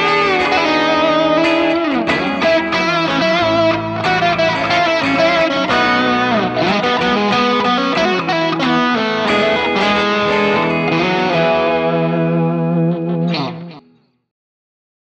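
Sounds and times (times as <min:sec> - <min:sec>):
guitar chord ringing: 0:00.0 - 0:14.1
electric guitar notes and chords: 0:00.0 - 0:14.3.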